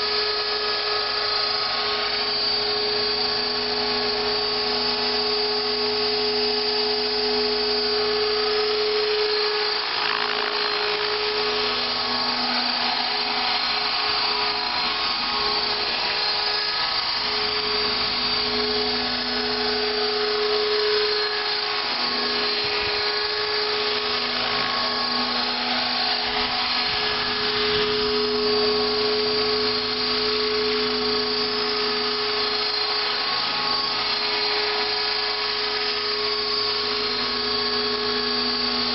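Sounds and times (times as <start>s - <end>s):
electric motor high whine: 0.0s - 38.9s
helicopter rotor hum: 0.0s - 38.9s.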